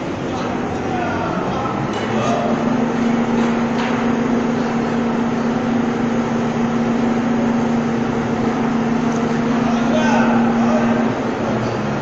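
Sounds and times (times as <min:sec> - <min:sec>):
crane diesel engine droning: 0:00.0 - 0:12.0.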